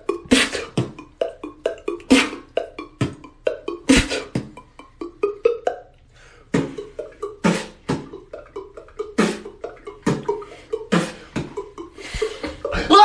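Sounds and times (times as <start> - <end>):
beatboxing kick and snare: 0.0 - 12.8.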